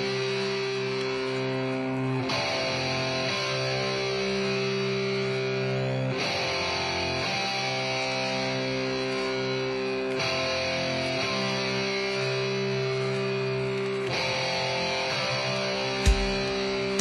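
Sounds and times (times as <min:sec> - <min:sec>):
guitar music with held chords: 0:00.0 - 0:17.0.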